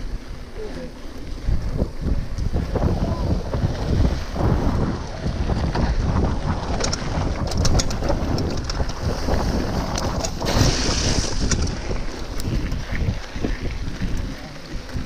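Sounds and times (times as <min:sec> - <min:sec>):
bike rattling: 0:00.0 - 0:15.0
tyres rolling over gravel: 0:00.0 - 0:15.0
wind buffeting microphone: 0:00.0 - 0:15.0.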